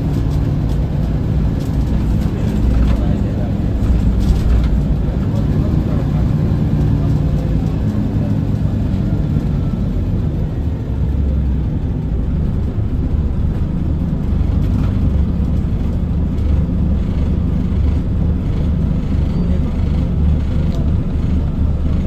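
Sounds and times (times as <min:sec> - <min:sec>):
bus diesel engine running: 0:00.0 - 0:22.0
road noise: 0:00.0 - 0:22.0.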